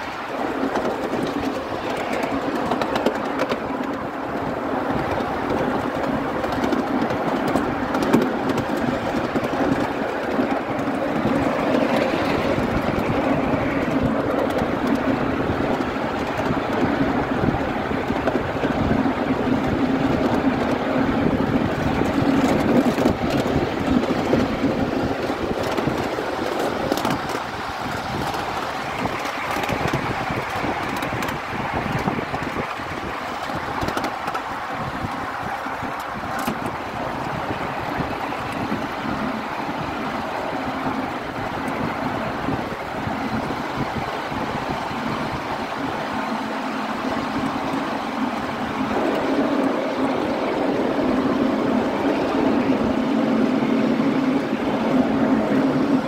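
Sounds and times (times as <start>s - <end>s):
miniature train wheels rumbling on rails: 0.0s - 56.0s.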